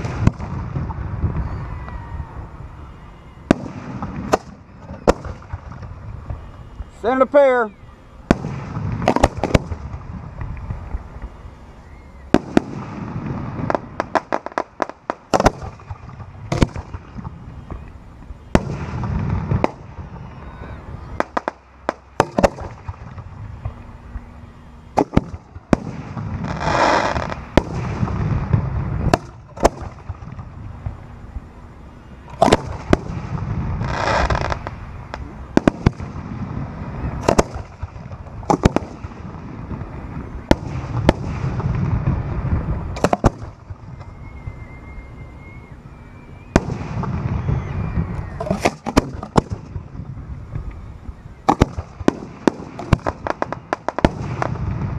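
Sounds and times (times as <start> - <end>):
fireworks bursting: 0.0 - 54.9
fireworks hissing: 0.0 - 54.9
low rumbling: 0.0 - 54.9.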